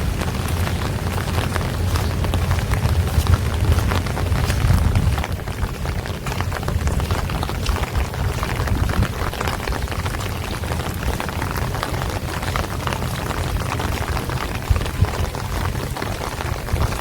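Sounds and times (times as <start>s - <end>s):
constant low rumble: 0.0s - 17.0s
rain hiss: 0.0s - 17.0s
raindrops ticking on hard surfaces: 0.0s - 17.0s.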